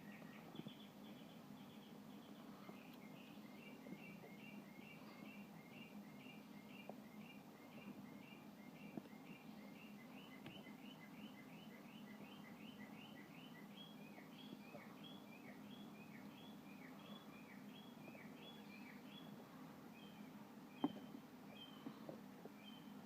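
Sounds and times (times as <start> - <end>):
faint bird song: 0.0 - 23.0
low steady hum: 0.0 - 23.0.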